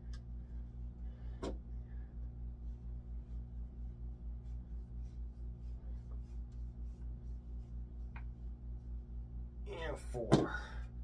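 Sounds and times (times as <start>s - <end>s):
pulsing low hum: 0.0s - 9.7s.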